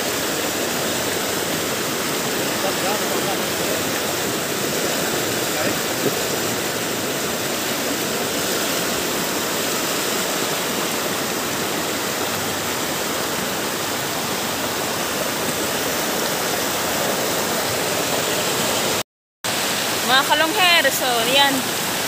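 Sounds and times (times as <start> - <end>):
rushing floodwater in river: 0.0 - 22.0.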